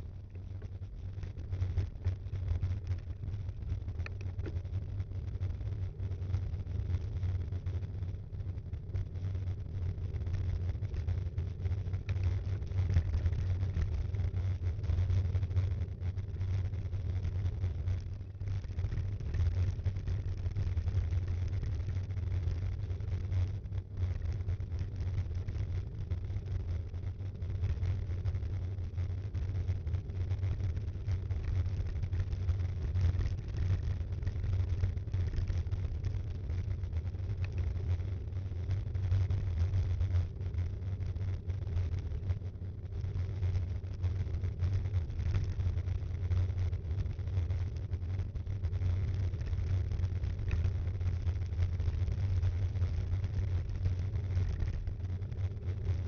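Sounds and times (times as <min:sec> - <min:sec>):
bike tyre and frame vibration: 0:00.0 - 0:56.0.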